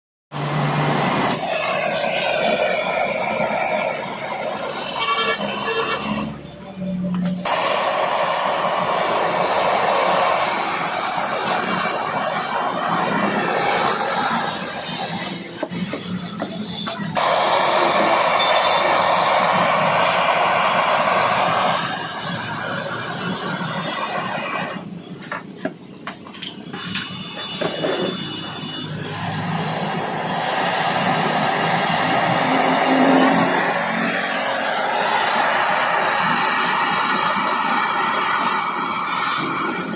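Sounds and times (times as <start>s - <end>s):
gas torch hissing roar: 0.3s - 6.3s, 7.4s - 25.0s, 26.8s - 39.9s.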